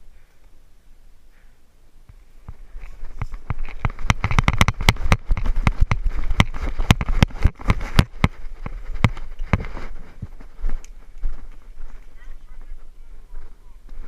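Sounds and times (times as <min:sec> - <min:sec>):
running footsteps: 0:02.1 - 0:14.0.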